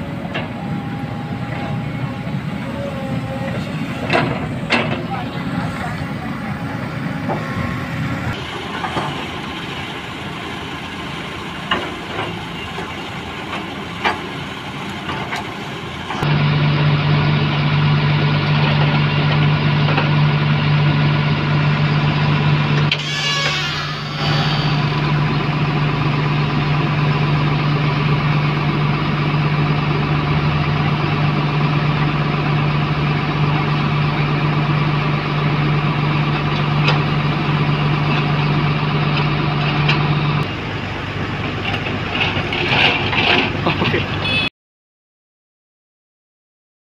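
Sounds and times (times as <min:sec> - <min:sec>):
heavy diesel engines running: 0:00.0 - 0:44.5
loud steady engine drone: 0:00.0 - 0:44.5.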